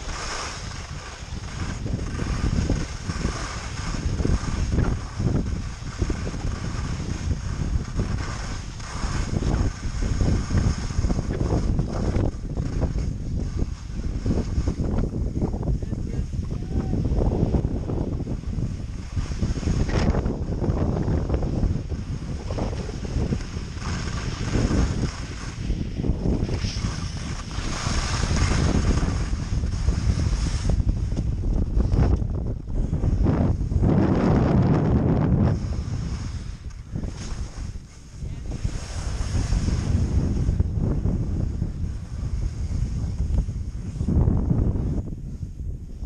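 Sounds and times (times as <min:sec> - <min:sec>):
skis scraping over crusted snow: 0:00.0 - 0:44.7
wind buffeting microphone: 0:00.0 - 0:46.0.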